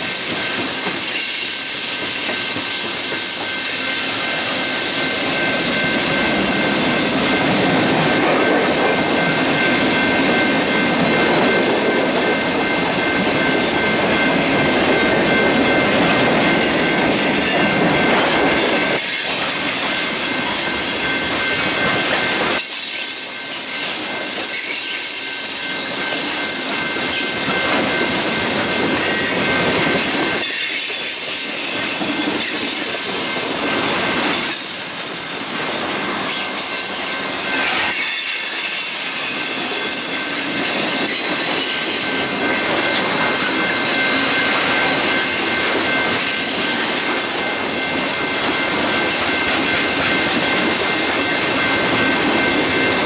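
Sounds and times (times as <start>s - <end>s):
freight cars rolling on rails: 0.0s - 53.0s.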